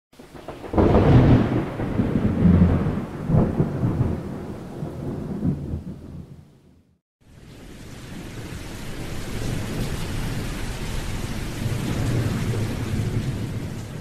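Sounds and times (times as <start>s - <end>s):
thunder rumbling: 0.2s - 6.9s, 7.8s - 14.0s.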